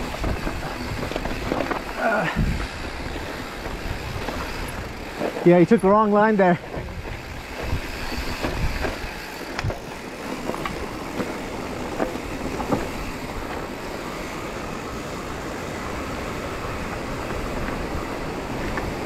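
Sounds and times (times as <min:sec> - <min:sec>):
bike clicks and clanks: 0:00.0 - 0:19.0
wind and tyre noise: 0:00.0 - 0:19.0.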